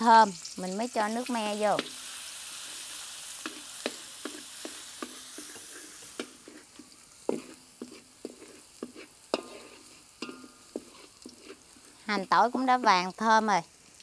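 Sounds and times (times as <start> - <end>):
onion and garlic sizzling in oil: 0.0 - 14.0.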